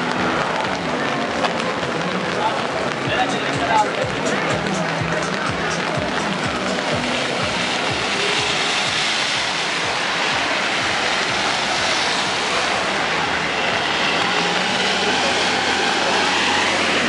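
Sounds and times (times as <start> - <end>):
heavy rain on street: 0.0 - 17.0
traffic on wet road: 0.0 - 17.0.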